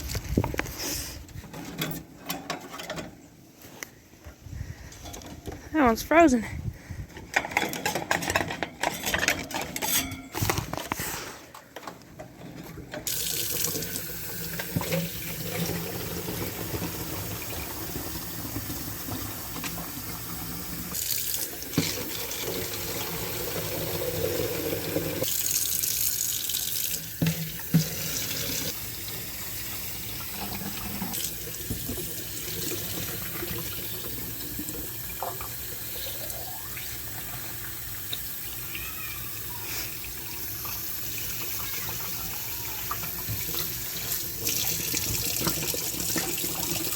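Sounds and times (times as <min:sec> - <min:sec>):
tap water filling bottles: 0:07.1 - 0:46.9.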